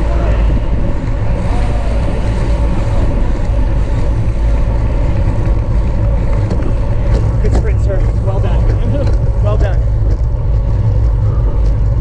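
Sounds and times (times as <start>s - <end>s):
tyre and road noise: 0.0s - 12.0s
wind rumble on microphone: 0.0s - 12.0s.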